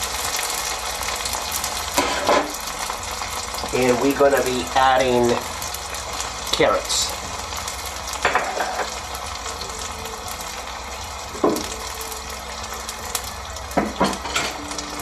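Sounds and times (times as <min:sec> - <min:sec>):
carrots sizzling in hot oil: 0:00.0 - 0:15.0.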